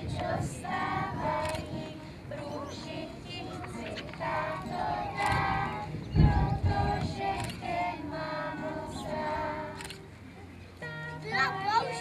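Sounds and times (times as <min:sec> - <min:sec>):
children singing: 0:00.0 - 0:09.9.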